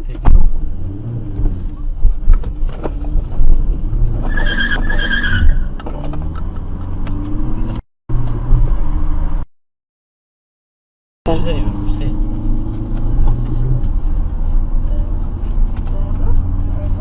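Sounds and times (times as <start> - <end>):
vehicle engine and road noise: 0.0 - 9.5, 11.3 - 17.0.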